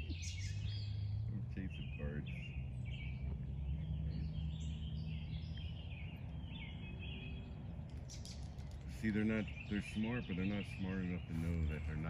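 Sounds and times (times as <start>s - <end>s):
birds chirping and calling: 0.0s - 12.0s
low outdoor rumble: 0.0s - 12.0s.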